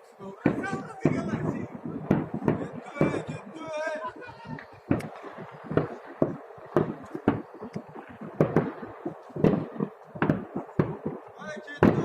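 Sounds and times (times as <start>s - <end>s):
fireworks sharp bangs: 0.0s - 12.0s.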